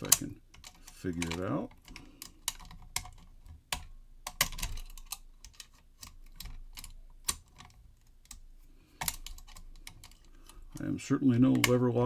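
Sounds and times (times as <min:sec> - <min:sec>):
lock picks clicking and scraping: 0:00.0 - 0:12.0.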